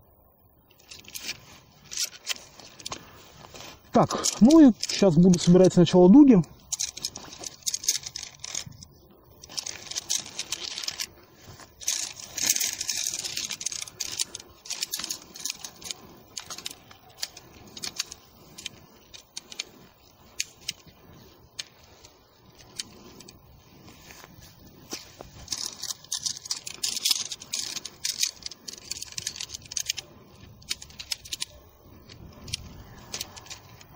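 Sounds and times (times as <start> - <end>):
rustling: 0.6 - 33.9
tent poles clinking: 0.6 - 33.9.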